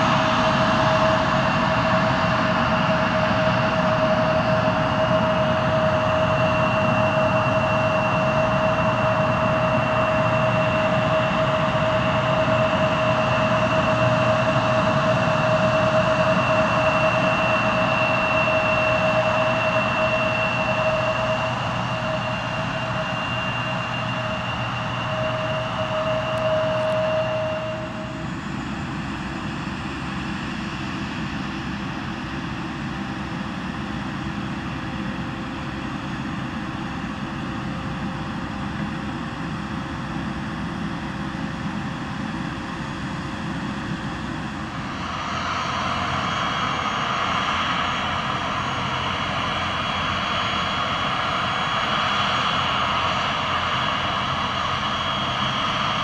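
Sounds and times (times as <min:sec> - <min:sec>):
higher engine whine: 0:00.0 - 0:56.0
jet engines rumbling with a whine: 0:00.0 - 0:56.0.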